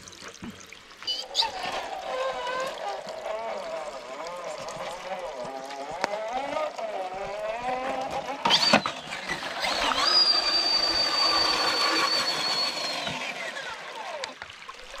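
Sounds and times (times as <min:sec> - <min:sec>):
toy truck electric motor whining: 0:01.1 - 0:14.4.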